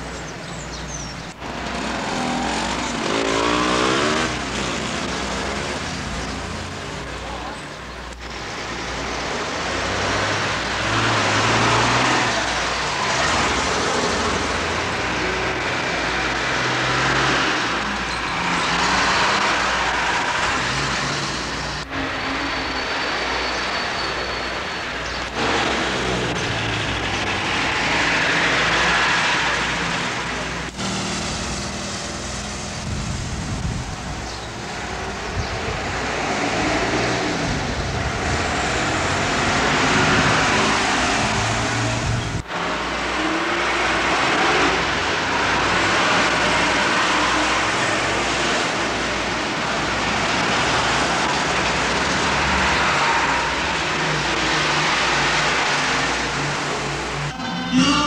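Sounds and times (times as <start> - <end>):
buses and cars passing: 0.0 - 58.0
steady traffic noise: 0.0 - 58.0.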